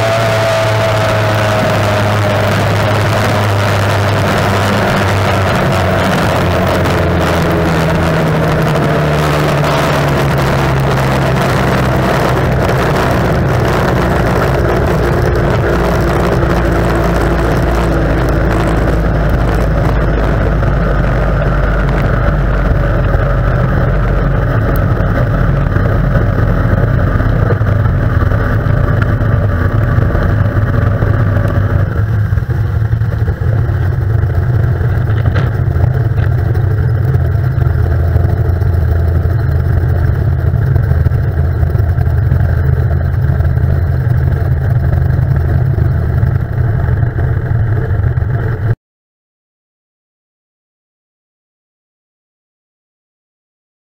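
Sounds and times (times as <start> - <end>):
outboard engine: 0.0 - 48.8
wind noise: 0.0 - 48.8.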